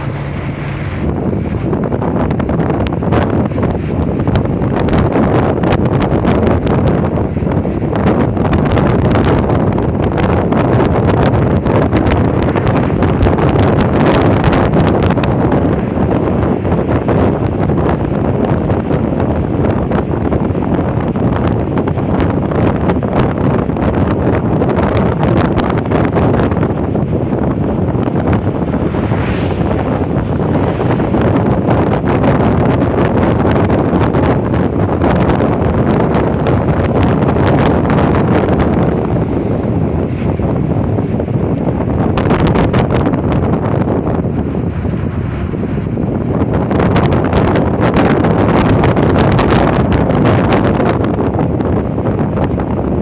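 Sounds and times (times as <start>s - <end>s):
vehicle engine: 0.0s - 24.0s, 24.8s - 53.0s
road noise: 0.0s - 53.0s
wind buffeting microphone: 0.0s - 53.0s.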